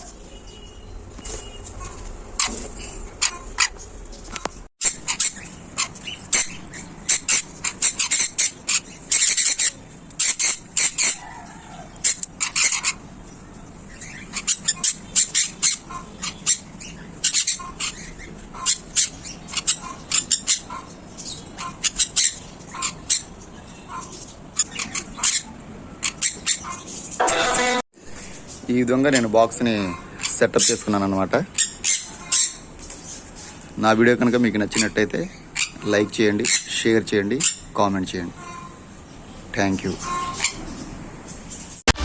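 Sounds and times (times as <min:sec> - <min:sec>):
parrots squawking: 0:01.3 - 0:39.1, 0:39.8 - 0:42.0.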